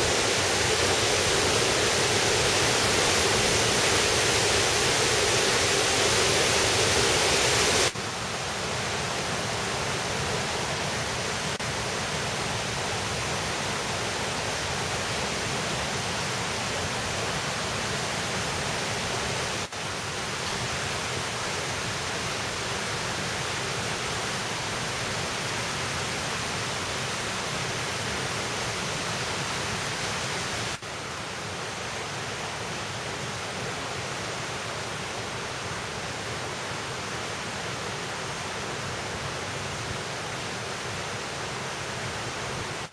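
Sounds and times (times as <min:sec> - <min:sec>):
stream white water rushing: 0:00.0 - 0:42.9.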